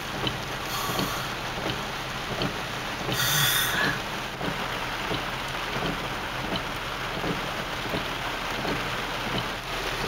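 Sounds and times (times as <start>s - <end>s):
rain pattering on a car: 0.0s - 10.0s.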